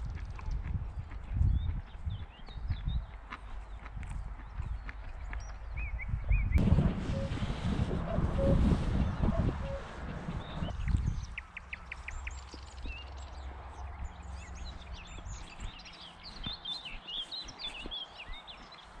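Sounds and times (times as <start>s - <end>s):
wind on microphone: 0.0s - 13.0s, 13.8s - 19.0s
birds singing: 0.9s - 7.4s, 8.1s - 19.0s.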